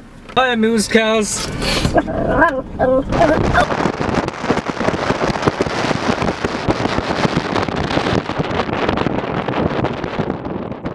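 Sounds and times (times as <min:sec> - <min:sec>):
wind buffeting microphone: 0:01.7 - 0:10.9.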